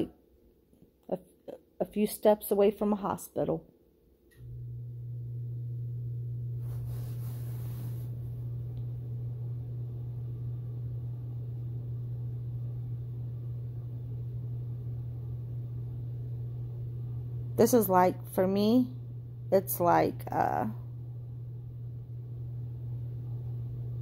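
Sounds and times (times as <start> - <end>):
steady low hum: 4.3 - 24.0.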